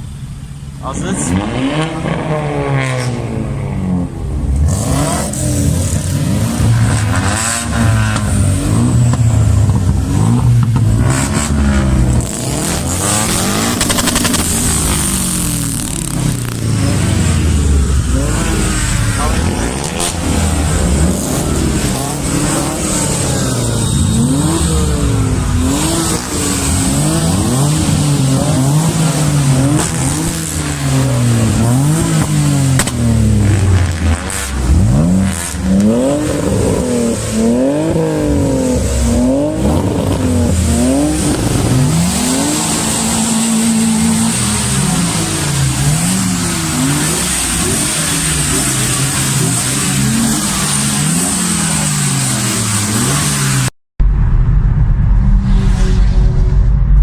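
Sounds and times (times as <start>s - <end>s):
car engines revving: 0.0s - 53.8s.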